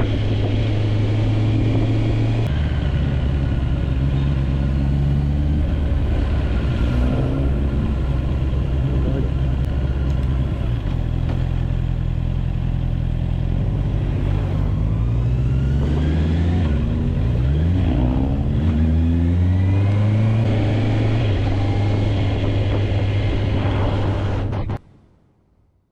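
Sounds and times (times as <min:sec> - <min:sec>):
motorcycle engine revving: 0:00.0 - 0:24.8.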